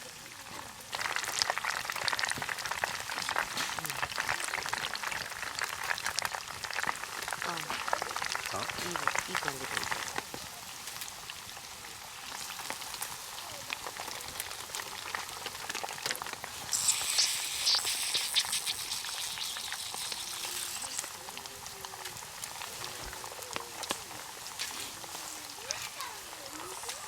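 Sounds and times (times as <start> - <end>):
chicken sizzling in oil: 0.0 - 27.0.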